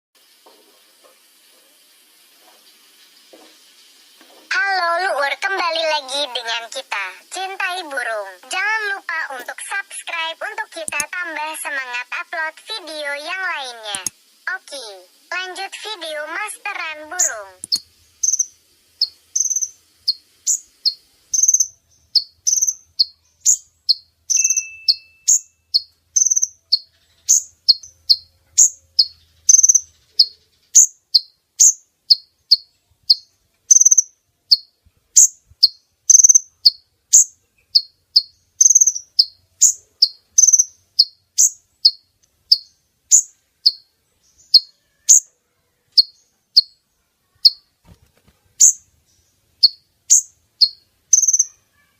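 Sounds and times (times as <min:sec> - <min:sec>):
sunbird high chirps: 0:00.2 - 0:45.3, 0:45.9 - 0:47.7, 0:48.6 - 0:51.9.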